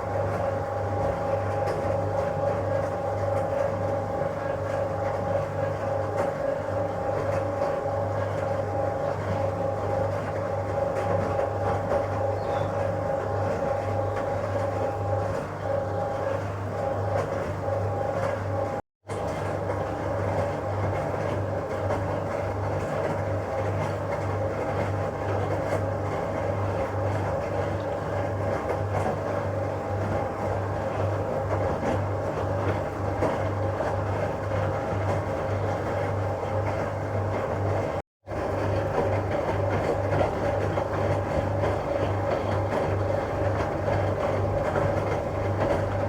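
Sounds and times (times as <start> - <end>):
washing machine motor humming: 0.0 - 46.0.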